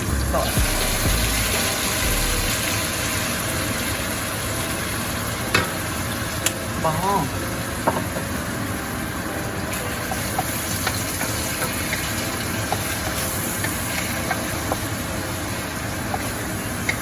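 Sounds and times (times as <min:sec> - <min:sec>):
chicken sizzling in a pot: 0:00.0 - 0:17.0.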